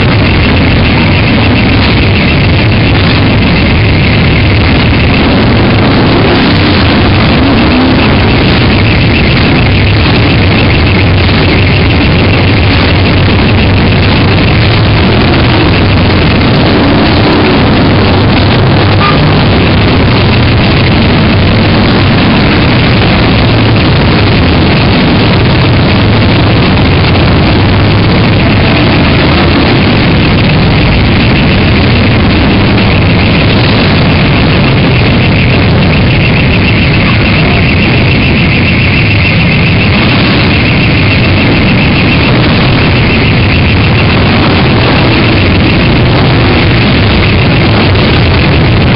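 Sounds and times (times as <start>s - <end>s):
many motorcycle engines: 0.0s - 48.9s.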